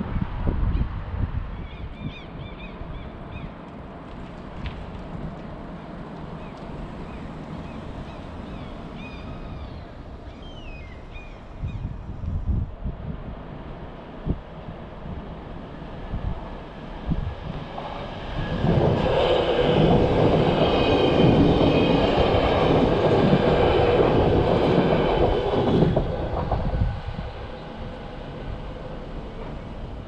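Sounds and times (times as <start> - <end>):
train rumble and wheel clatter: 0.0 - 30.0.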